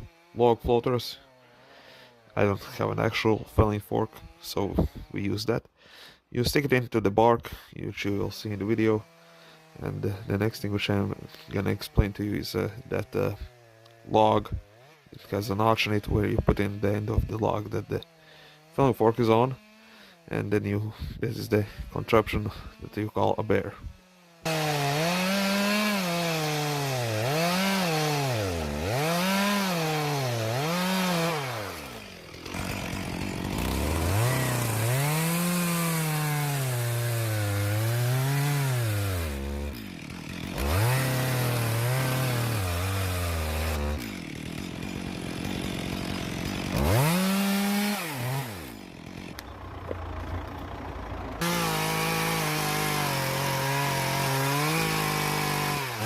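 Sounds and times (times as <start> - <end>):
chainsaw cutting wood: 0.0 - 5.4, 8.4 - 50.8, 51.4 - 56.0.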